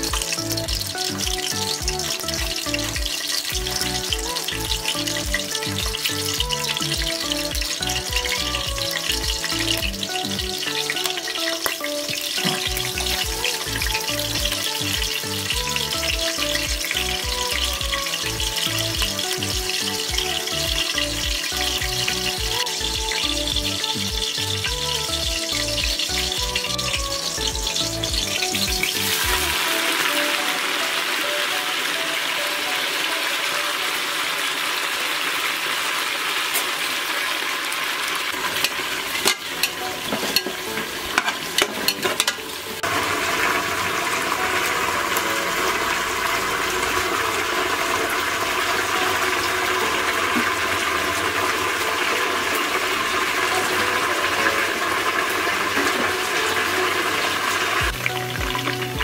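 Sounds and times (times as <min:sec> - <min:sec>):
background music: 0:00.0 - 0:35.4, 0:38.3 - 0:59.0
spices sizzling in hot oil: 0:00.0 - 0:59.0.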